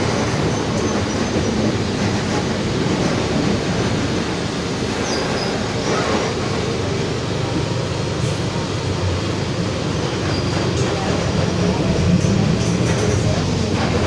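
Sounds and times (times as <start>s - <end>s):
road and engine noise: 0.0s - 14.0s.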